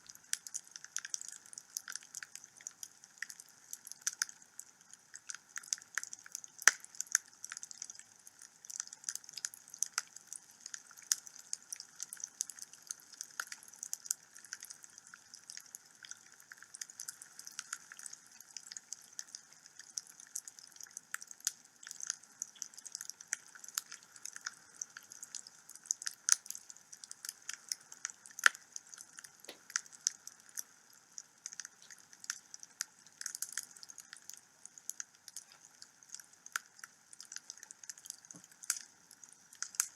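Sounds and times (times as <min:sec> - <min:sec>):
wood fire crackling and popping: 0:05.1 - 0:08.0, 0:08.7 - 0:38.9, 0:39.5 - 0:39.9.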